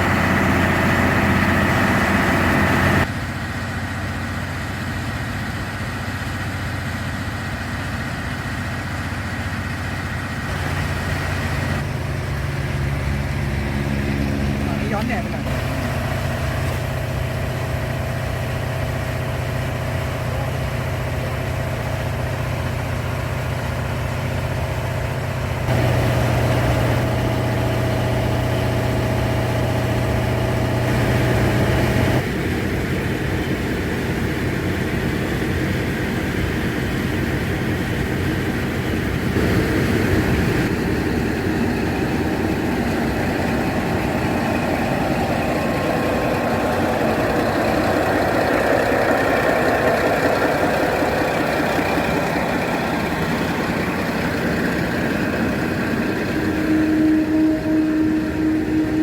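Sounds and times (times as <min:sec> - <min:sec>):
diesel railcar engine droning: 0:00.0 - 0:59.0.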